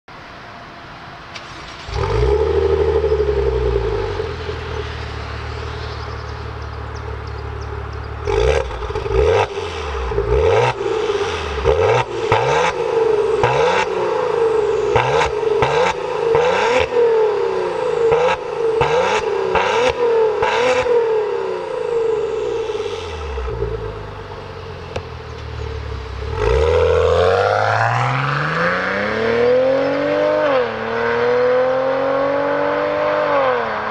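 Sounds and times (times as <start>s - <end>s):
car engine starting and idling: 0.9s - 31.1s
engine throttle blips: 1.3s - 30.6s.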